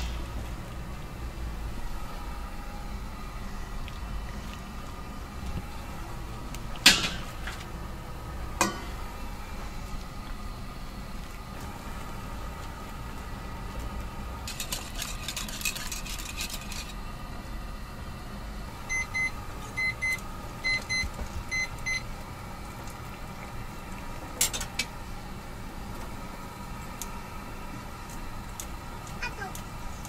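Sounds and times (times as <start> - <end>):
kitchen hum: 0.0 - 30.0.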